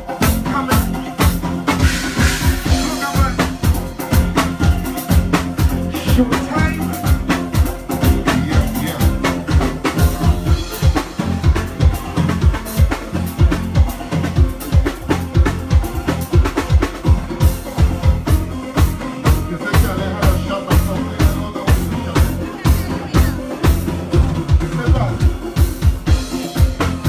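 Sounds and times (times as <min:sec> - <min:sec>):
bass guitar: 0:00.0 - 0:27.0
drum kit: 0:00.0 - 0:27.0.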